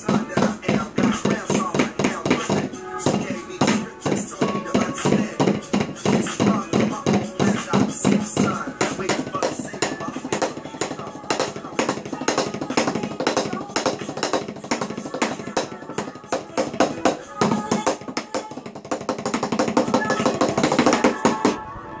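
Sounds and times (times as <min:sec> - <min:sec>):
drumsticks on a practice pad: 0:00.0 - 0:21.6.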